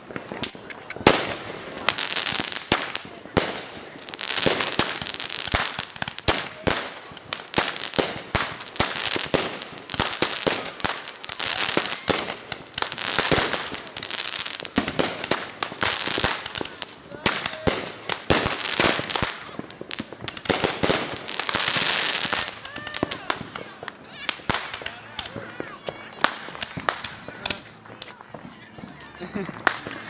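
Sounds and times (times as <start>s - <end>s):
fireworks bangs and pops: 0.0s - 30.0s
fireworks hissing crackle: 0.0s - 30.0s.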